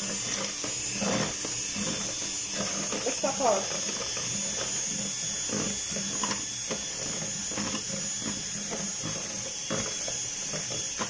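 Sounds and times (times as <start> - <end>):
electric hand mixer whining: 0.0 - 11.0.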